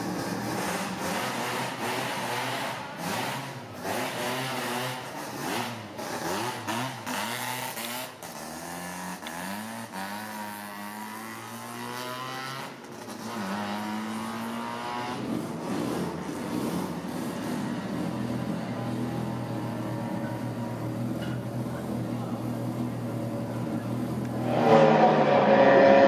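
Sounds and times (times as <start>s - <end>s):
rotary engine revving: 0.0s - 22.1s, 22.7s - 26.0s.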